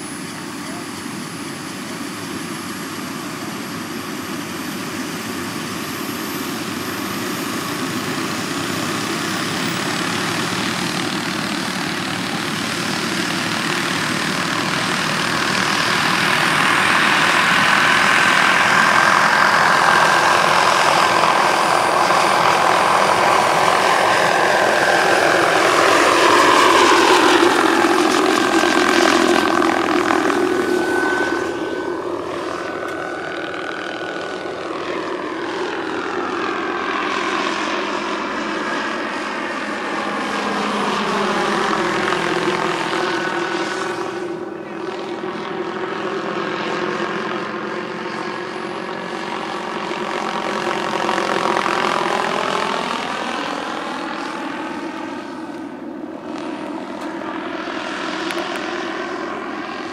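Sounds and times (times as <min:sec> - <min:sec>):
model helicopter turbine whine: 0:00.0 - 0:59.9.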